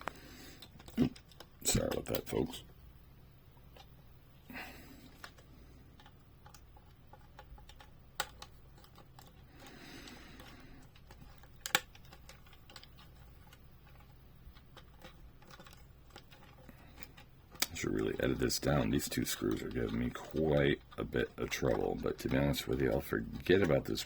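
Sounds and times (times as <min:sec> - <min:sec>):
light clicks and ticks: 0:04.6 - 0:24.0.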